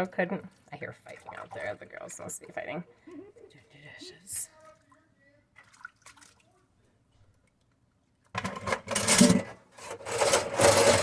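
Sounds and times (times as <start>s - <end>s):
dishes washed at sink: 0.0s - 6.7s, 8.3s - 11.0s.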